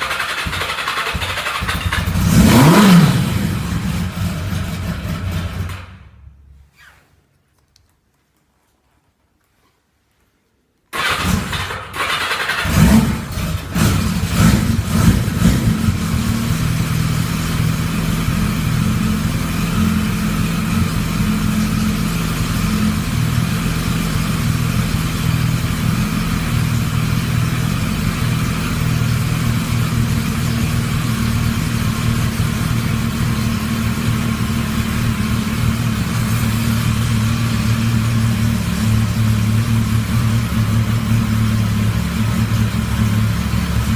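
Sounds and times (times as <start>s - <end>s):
motorcycle engine cranking and starting: 0.0s - 6.4s, 10.9s - 43.9s.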